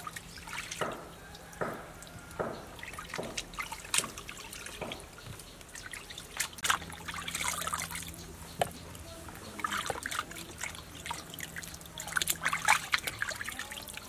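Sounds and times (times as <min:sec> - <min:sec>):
water dripping and splashing: 0:00.0 - 0:14.0.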